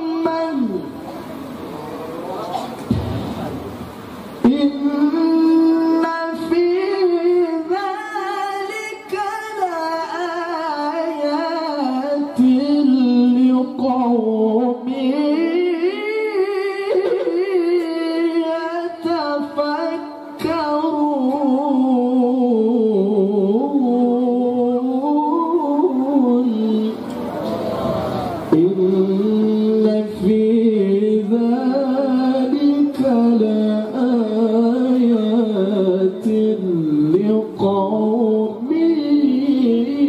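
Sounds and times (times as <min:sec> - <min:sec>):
man reciting melodically into microphone: 0:00.0 - 0:01.3, 0:02.2 - 0:27.4, 0:28.2 - 0:40.0.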